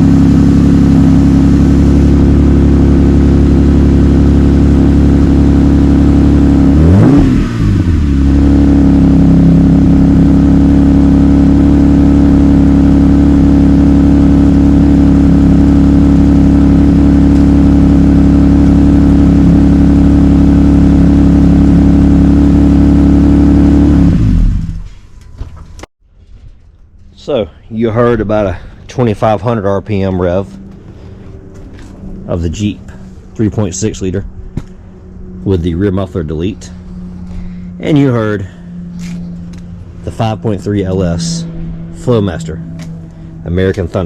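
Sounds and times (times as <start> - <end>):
car engine idling and revving: 0.0 - 25.9, 26.6 - 44.0.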